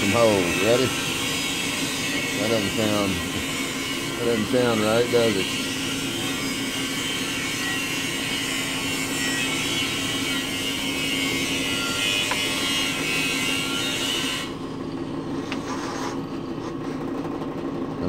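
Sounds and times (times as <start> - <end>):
drill press motor hum: 0.0 - 18.0.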